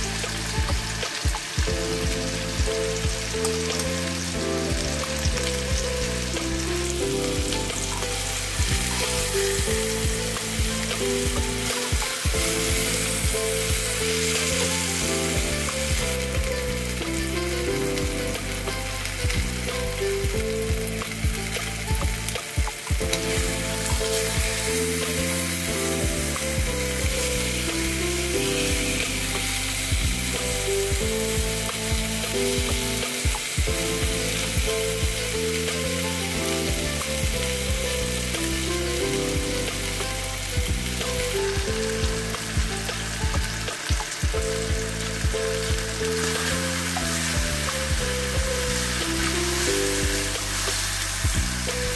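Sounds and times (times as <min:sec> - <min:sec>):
meat sizzling in frying pan: 0:00.0 - 0:51.9
soft background music: 0:00.0 - 0:51.9.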